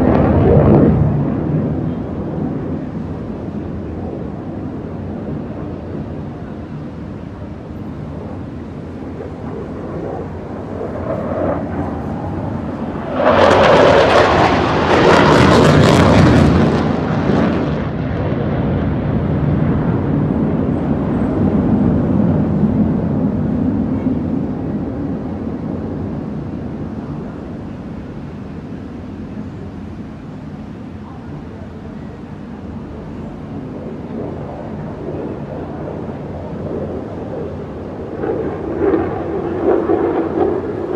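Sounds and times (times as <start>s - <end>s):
aircraft flying past: 0.0s - 6.7s, 7.5s - 27.6s, 33.5s - 40.9s.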